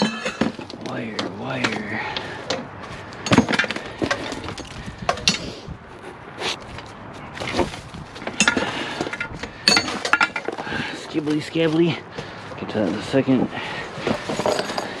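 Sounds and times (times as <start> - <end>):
handling noise: 0.0 - 13.1.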